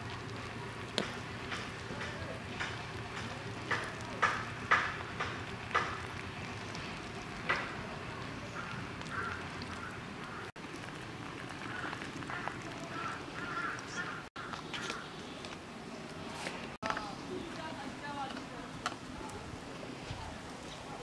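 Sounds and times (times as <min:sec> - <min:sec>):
water pouring onto ground: 0:00.0 - 0:21.0.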